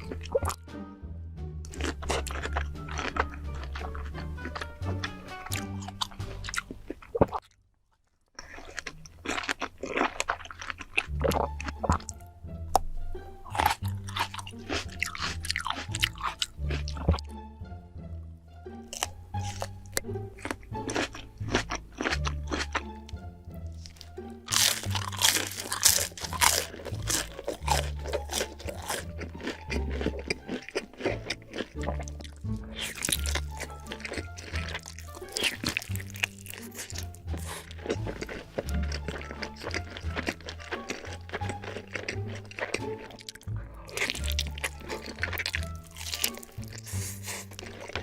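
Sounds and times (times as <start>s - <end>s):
crunchy bites: 0.0s - 0.6s, 1.6s - 7.6s, 8.3s - 17.3s, 18.9s - 23.2s, 23.8s - 48.0s
wet chewing: 0.0s - 0.6s, 1.7s - 17.3s, 18.9s - 23.2s, 23.8s - 48.0s
background music with bass line: 0.0s - 6.9s, 11.0s - 48.0s.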